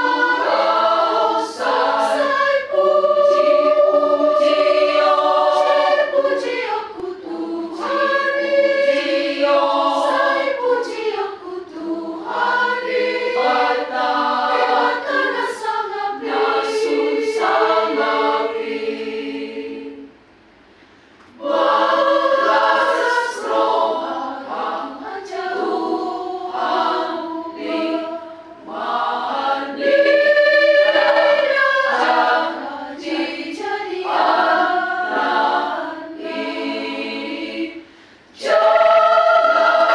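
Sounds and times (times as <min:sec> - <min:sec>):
choir singing: 0:00.0 - 0:20.2, 0:21.3 - 0:39.9.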